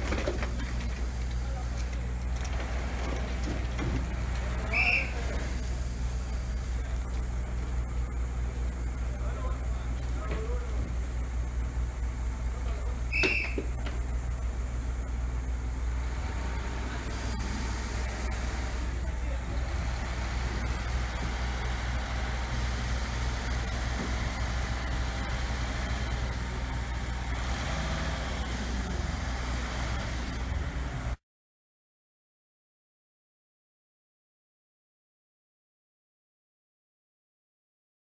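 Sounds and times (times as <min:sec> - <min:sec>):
crane engine rumbling: 0:00.0 - 0:31.2.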